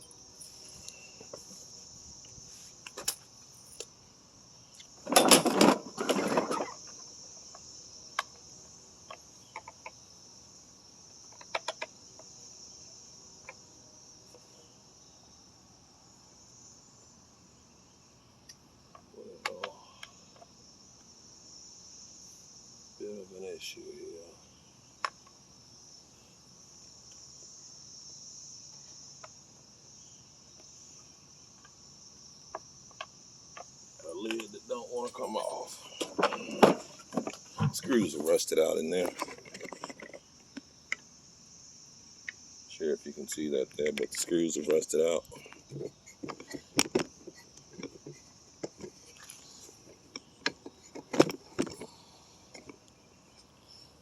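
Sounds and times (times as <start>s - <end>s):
crickets chirring: 0.0s - 54.0s
insect chorus: 0.0s - 54.0s.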